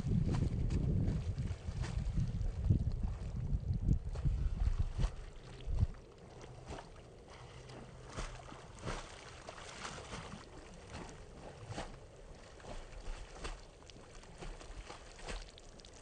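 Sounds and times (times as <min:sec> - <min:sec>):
dog paddling and splashing water: 0:00.1 - 0:16.0.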